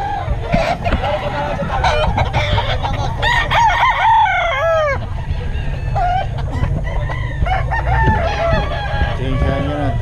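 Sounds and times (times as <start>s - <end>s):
other roosters calling: 0.0s - 10.0s
rooster crowing: 0.0s - 10.0s.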